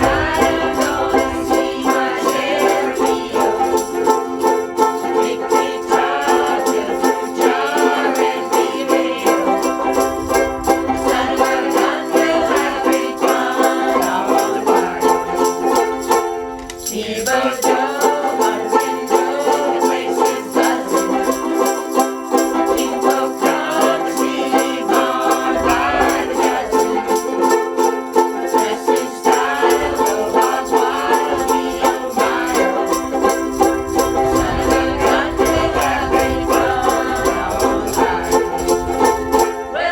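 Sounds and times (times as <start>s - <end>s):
ukuleles strumming: 0.0s - 39.9s
voices singing along: 0.0s - 39.9s.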